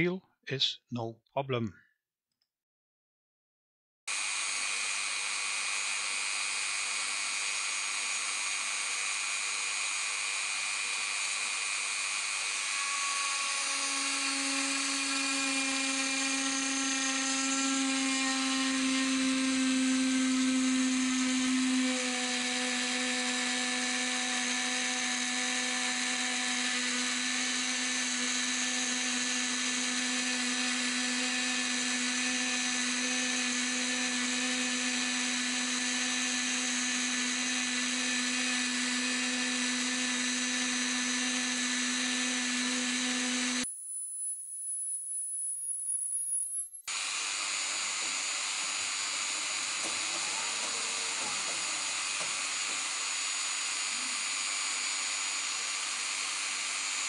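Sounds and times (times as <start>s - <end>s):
rotary tool whining: 4.1s - 57.0s.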